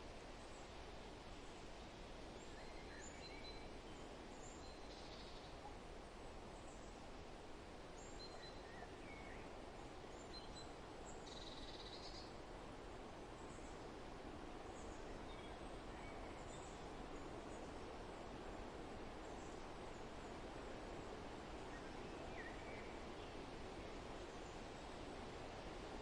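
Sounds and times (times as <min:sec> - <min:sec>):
wind rustling in trees: 0:00.0 - 0:26.0.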